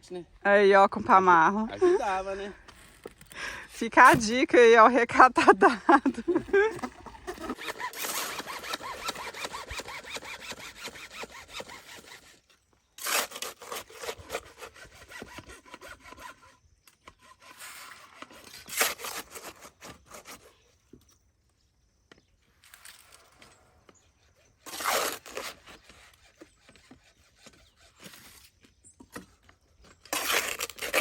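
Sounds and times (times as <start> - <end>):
hand tool scraping wet mortar: 1.8 - 4.5, 6.0 - 20.7, 22.6 - 31.0.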